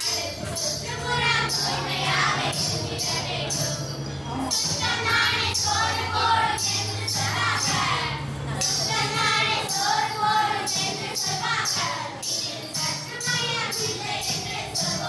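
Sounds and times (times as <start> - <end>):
children singing in chorus: 0.0 - 3.8, 4.5 - 15.0
bells jingling on musical bow: 0.0 - 15.0.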